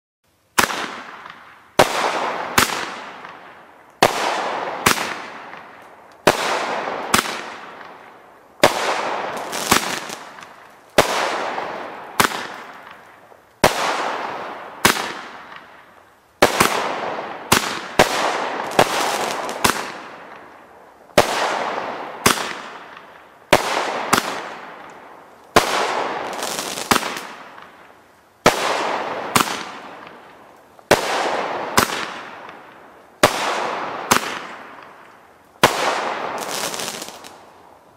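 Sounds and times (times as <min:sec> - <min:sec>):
fireworks bangs with crackling: 0:00.6 - 0:35.0, 0:35.6 - 0:37.5.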